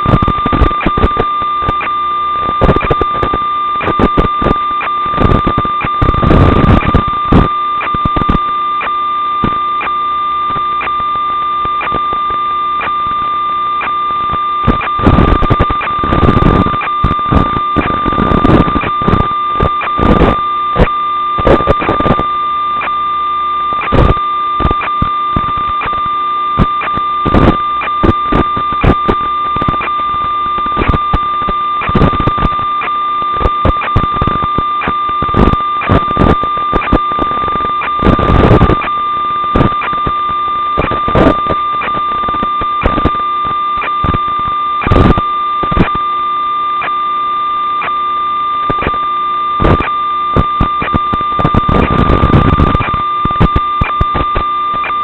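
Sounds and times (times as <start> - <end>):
electronic whine: 0.0 - 55.0
radio static crackles and pops: 0.0 - 55.0.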